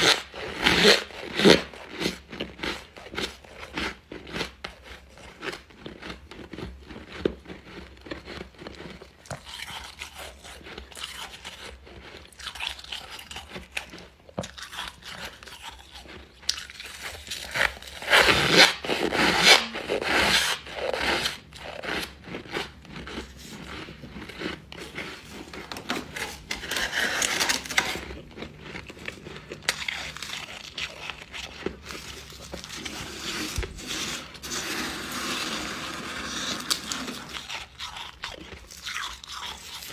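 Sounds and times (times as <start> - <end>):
crunching and chewing frost: 0.0 - 39.9.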